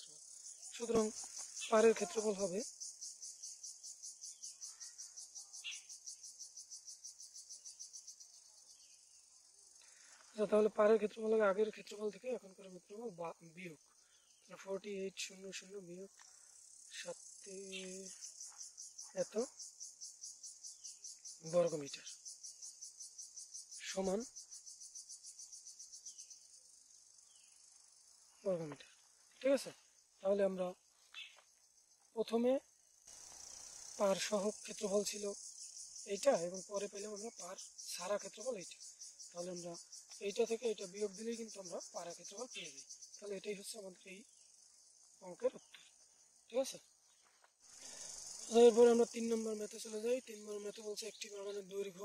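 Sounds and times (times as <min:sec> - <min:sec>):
faint insect chirring: 0:00.0 - 0:52.0.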